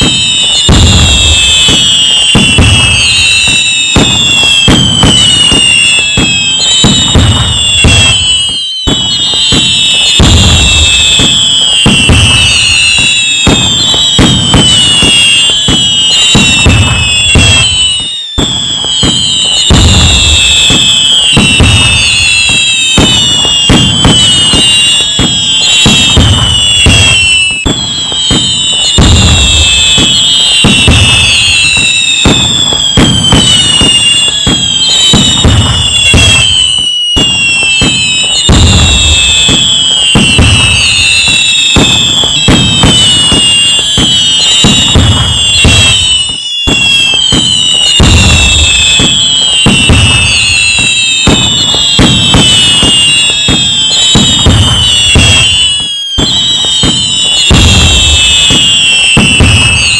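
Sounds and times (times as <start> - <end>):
fireworks crackling: 0.0 - 59.9
fireworks deep booms: 0.0 - 59.9
fireworks whistles falling in pitch: 0.0 - 59.9.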